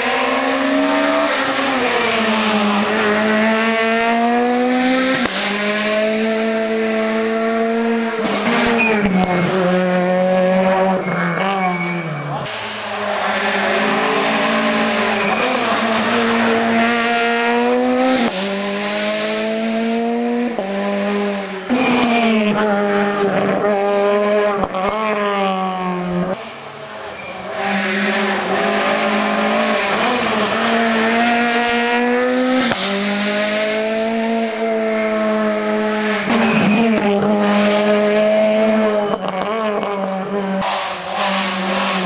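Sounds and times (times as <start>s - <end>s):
rally car engines accelerating: 0.0s - 42.0s.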